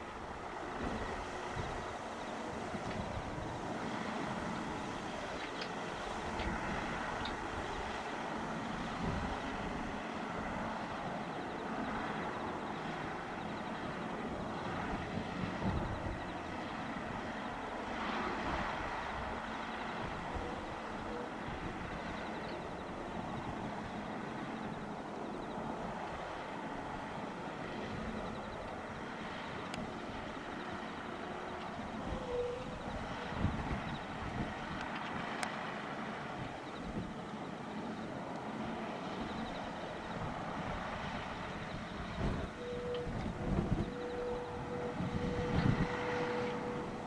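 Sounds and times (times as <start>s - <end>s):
distant light aircraft engine drone: 0.0s - 47.0s
wind rumbling on microphone: 0.0s - 47.0s.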